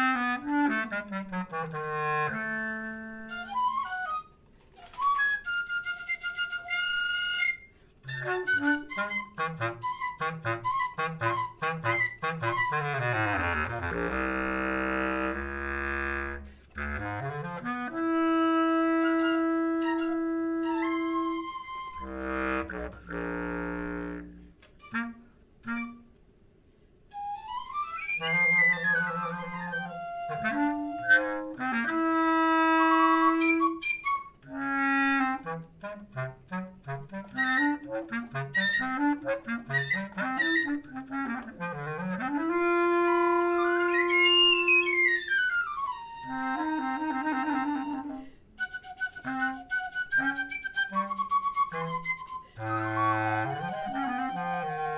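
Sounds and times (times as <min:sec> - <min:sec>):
flute and clarinet duo: 0:00.0 - 0:26.4, 0:27.1 - 0:54.9.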